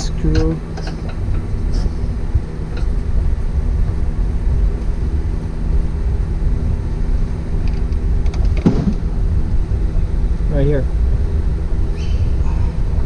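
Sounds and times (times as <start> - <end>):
mechanical rumble and hum: 0.0 - 13.0.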